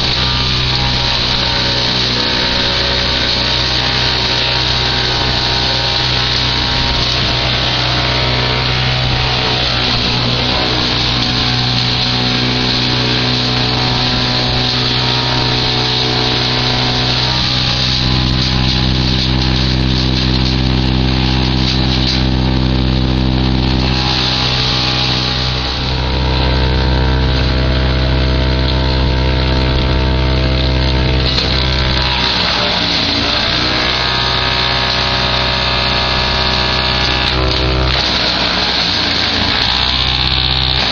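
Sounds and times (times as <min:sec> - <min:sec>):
tractor and branch chipper running: 0:00.0 - 0:40.9.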